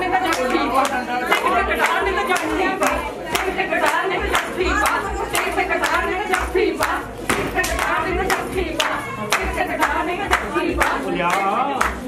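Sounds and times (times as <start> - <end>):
hand clapping in time: 0.0 - 12.0
voices singing together: 0.0 - 12.0.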